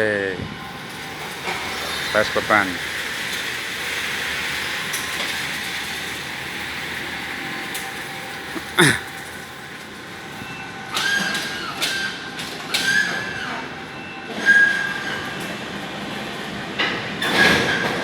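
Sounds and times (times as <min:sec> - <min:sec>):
electric hoist crane running: 0:00.0 - 0:18.0.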